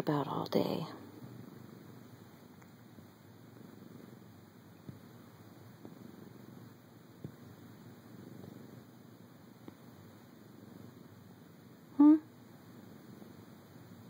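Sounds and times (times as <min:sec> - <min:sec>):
cat purring: 0:00.2 - 0:14.0.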